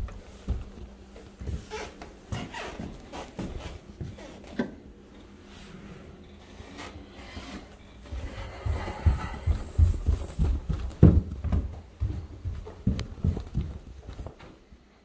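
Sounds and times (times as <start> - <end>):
footsteps: 0.0 - 4.5, 6.6 - 14.6.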